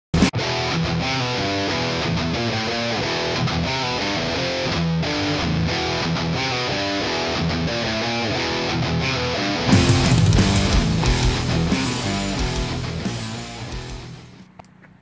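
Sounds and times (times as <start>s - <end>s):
distorted electric guitar rock music: 0.1s - 14.4s.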